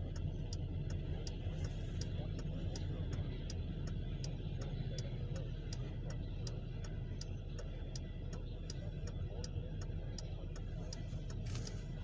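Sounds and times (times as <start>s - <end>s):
steady ticking: 0.0s - 12.0s.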